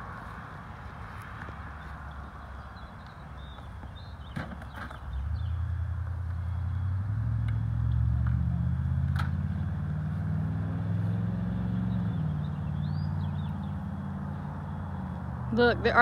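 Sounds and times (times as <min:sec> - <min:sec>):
motor vehicle engine drone: 0:00.0 - 0:16.0.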